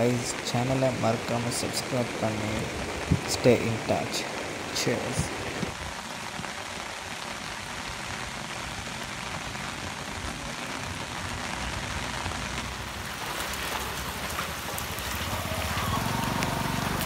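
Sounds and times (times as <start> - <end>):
heavy rain on rock and water: 0.0 - 17.0.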